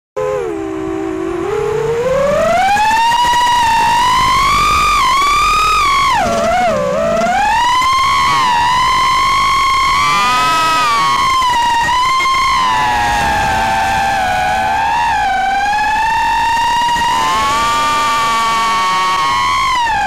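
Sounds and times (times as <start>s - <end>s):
drone motors whining: 0.2s - 20.0s.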